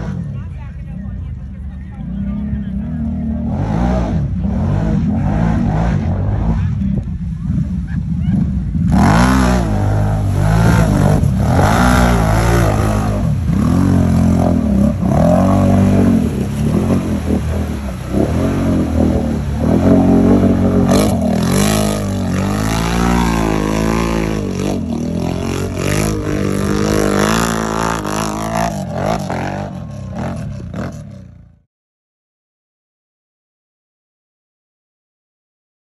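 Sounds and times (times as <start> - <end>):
off-road vehicle engine revving: 0.0 - 0.5, 1.9 - 31.6.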